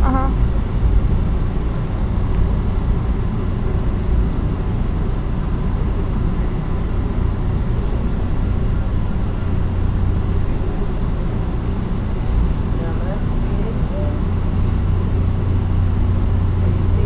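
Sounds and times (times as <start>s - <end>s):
train interior rumble: 0.0s - 17.0s.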